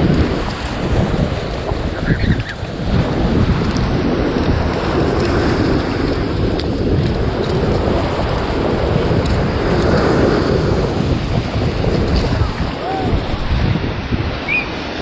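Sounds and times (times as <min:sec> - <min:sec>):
breaking surf: 0:00.0 - 0:15.0
wind buffeting microphone: 0:00.0 - 0:15.0.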